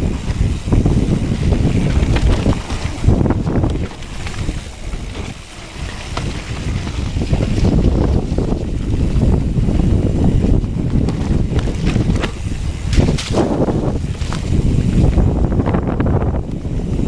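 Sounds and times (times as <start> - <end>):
bike rattles and knocks: 0.0 - 17.0
bike tyre rumble on dirt: 0.0 - 17.0
wind rushing over microphone: 0.0 - 17.0.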